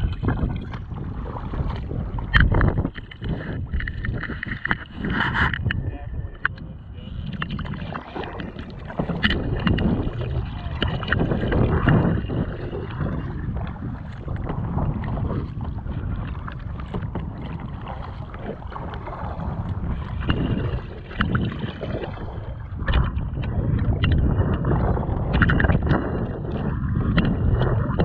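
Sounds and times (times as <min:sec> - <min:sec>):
paddle splashing in water: 0:00.0 - 0:05.8, 0:06.4 - 0:28.0
water sloshing against hull: 0:00.0 - 0:28.0
wind buffeting microphone: 0:00.0 - 0:28.0.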